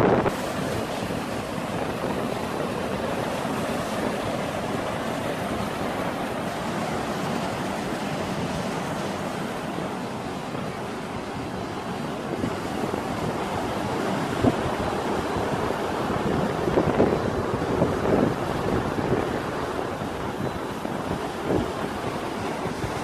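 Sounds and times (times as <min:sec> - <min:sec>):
sea surf breaking on beach: 0:00.0 - 0:23.0
wind buffeting microphone: 0:00.0 - 0:23.0.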